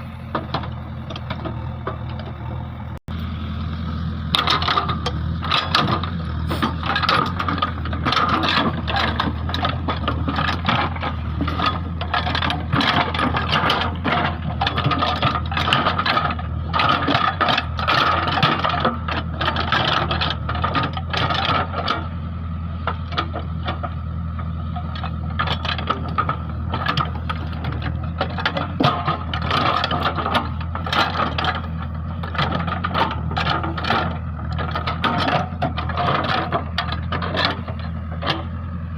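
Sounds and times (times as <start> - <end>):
diesel engine running: 0.0 - 38.9
rattling and scraping of soil and stones: 0.0 - 38.9.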